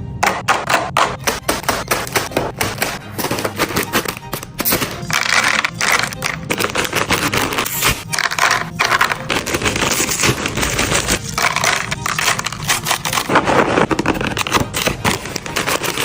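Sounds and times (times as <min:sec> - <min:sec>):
food packaging clattering: 0:01.8 - 0:16.0
packaging rustling: 0:03.1 - 0:16.0.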